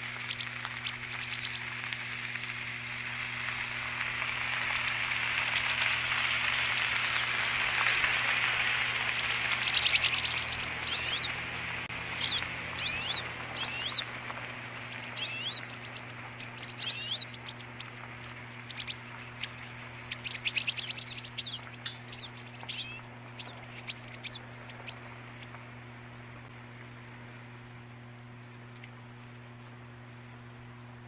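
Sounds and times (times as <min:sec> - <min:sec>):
songbirds chirping: 0:00.0 - 0:01.9, 0:04.2 - 0:27.0, 0:27.7 - 0:30.9
steady low hum: 0:00.0 - 0:31.0.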